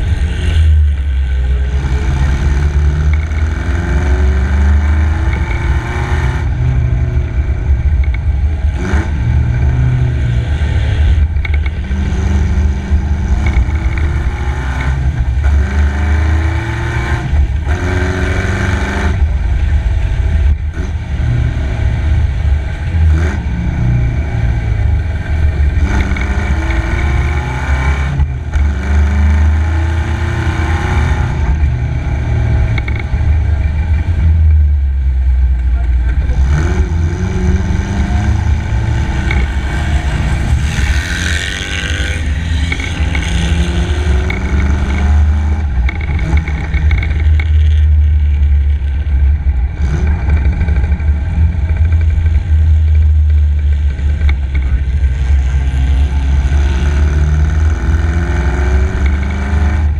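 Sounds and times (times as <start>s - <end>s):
deep rumble: 0.0s - 59.9s
racing car engine revving: 0.0s - 59.9s.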